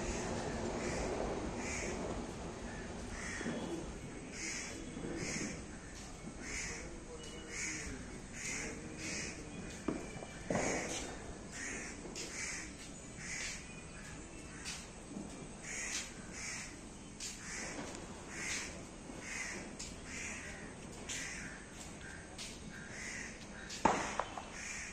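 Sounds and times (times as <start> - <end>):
crows cawing: 0.0 - 9.5, 10.5 - 14.8, 15.6 - 24.9.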